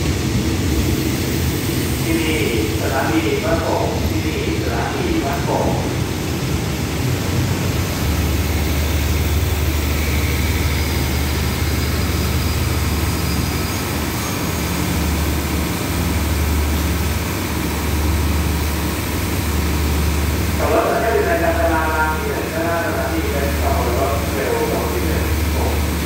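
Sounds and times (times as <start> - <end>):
diesel train engines humming: 0.0 - 26.0.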